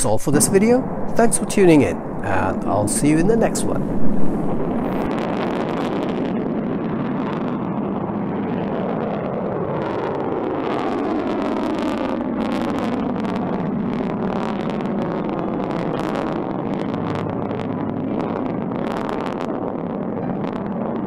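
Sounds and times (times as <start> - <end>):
rocket exhaust roar with crackling: 0.0 - 21.0.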